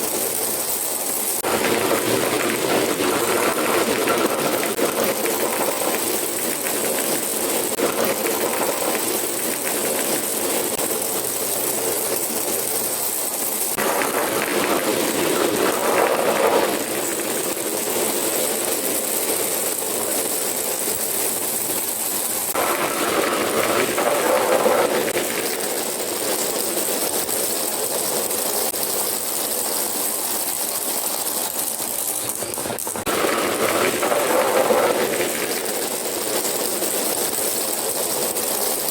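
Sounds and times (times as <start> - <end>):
marbles rattling down a track: 0.0 - 38.9.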